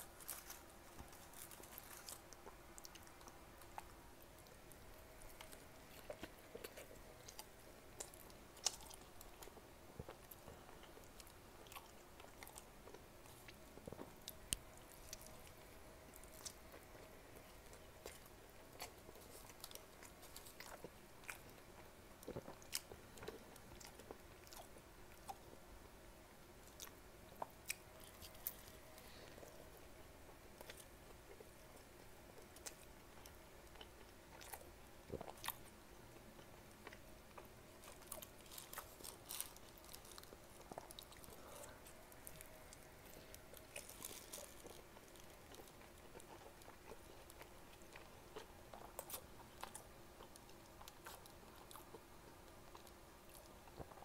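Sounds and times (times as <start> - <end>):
man chewing food: 0.0 - 25.7, 26.3 - 54.0
weak steady hum: 0.0 - 54.0.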